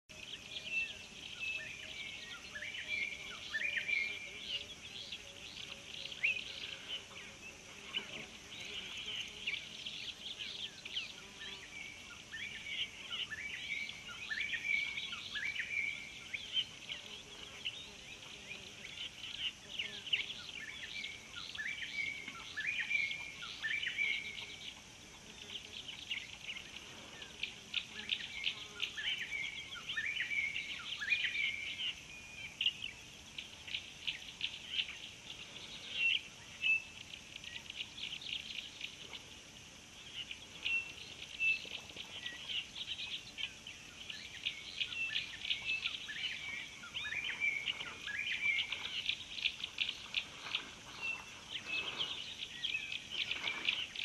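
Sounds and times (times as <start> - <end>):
faint high hiss: 0.1 - 54.0
birds chirping: 0.2 - 54.0.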